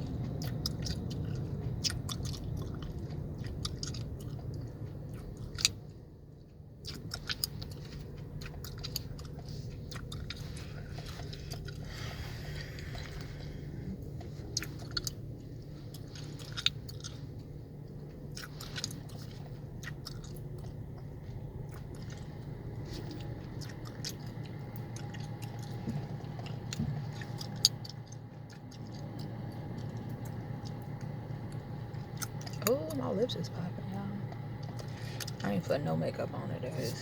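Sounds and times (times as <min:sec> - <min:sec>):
gum chewing: 0:00.0 - 0:33.0, 0:34.2 - 0:35.5
car interior hum: 0:00.0 - 0:37.0.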